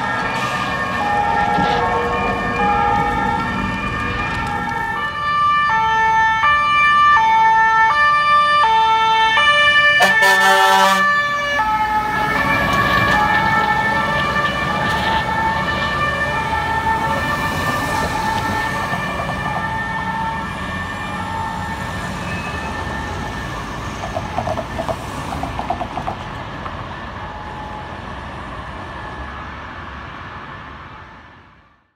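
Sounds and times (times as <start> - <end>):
fire engine two-tone siren: 0.0 - 24.3, 26.7 - 31.9
road traffic rumble: 0.0 - 31.9.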